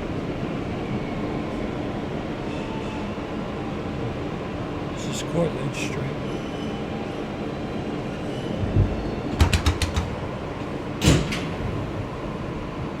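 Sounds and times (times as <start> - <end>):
subway car rumble: 0.0 - 13.0.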